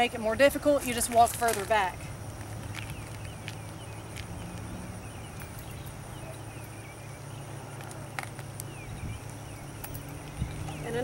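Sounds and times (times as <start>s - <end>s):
insect drone: 1.8s - 11.0s.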